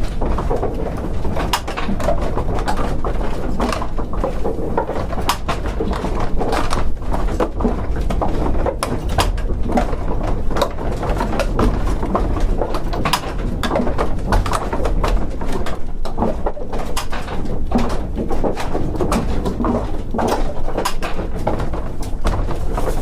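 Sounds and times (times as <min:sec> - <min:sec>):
scattered clicks and taps: 0:00.0 - 0:23.0.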